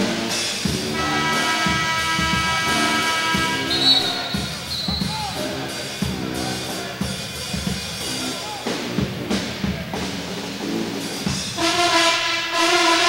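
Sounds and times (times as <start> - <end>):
bass and snare drum beat: 0.0 - 12.0
pep band playing: 0.0 - 13.0.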